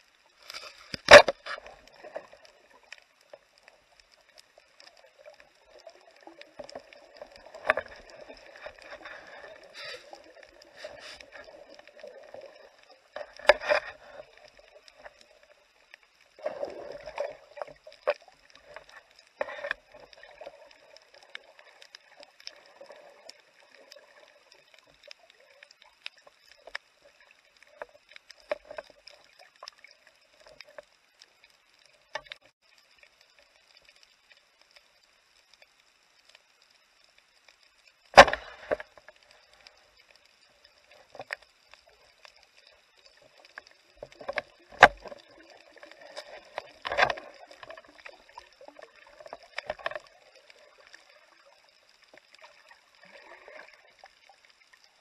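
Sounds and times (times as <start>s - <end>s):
underwater clicks and crackles: 0.0s - 55.0s.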